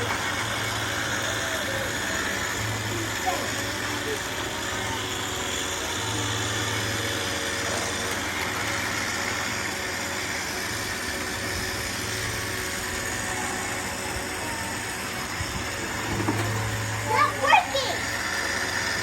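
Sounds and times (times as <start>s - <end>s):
robot vacuums whirring: 0.0s - 19.0s.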